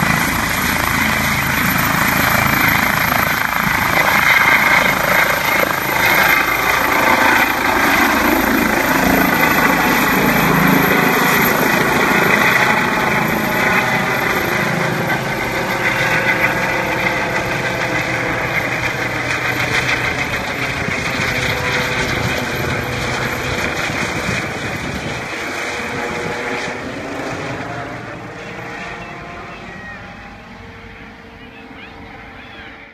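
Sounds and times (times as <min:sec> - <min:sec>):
helicopter rotor beat: 0:00.0 - 0:32.9
turbine and tail rotor whine: 0:00.0 - 0:32.9.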